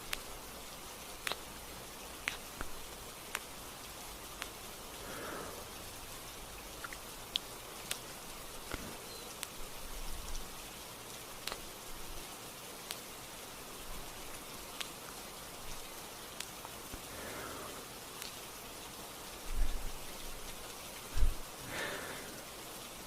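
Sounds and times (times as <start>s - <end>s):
gentle rain hiss: 0.0s - 23.0s
raindrops ticking: 0.0s - 23.0s.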